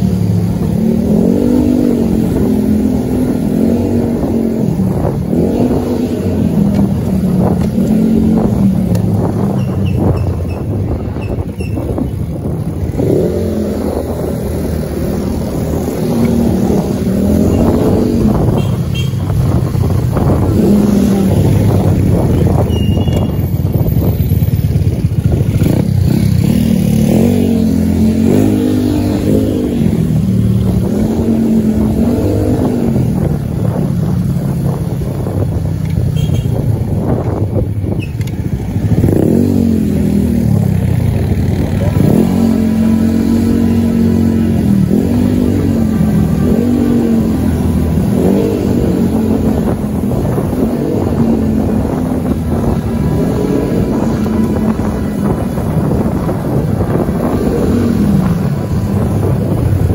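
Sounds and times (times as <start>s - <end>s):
low traffic rumble: 0.0s - 59.9s
scooter and car engines revving: 0.0s - 59.9s.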